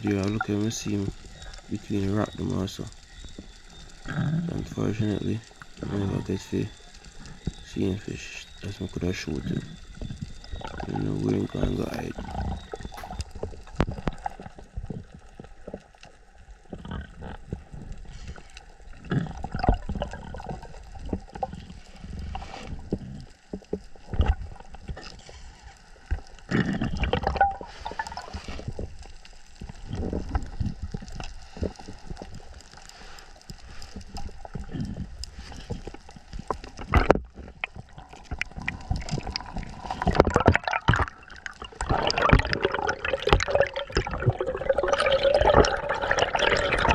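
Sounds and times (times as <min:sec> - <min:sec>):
underwater gurgling and sloshing: 0:00.0 - 0:46.9.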